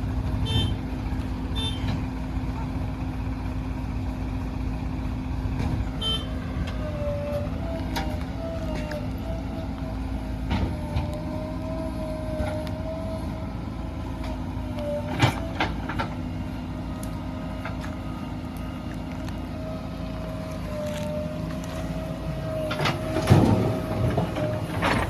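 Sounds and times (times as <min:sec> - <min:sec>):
diesel machinery droning: 0:00.0 - 0:25.0.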